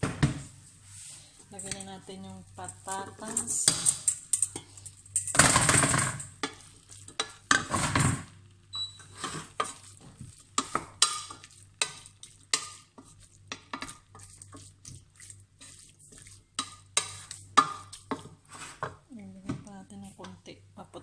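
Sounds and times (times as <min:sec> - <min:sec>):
wooden spatula scraping a pot: 0:00.9 - 0:08.3, 0:09.0 - 0:19.0
food sizzling: 0:01.1 - 0:18.9.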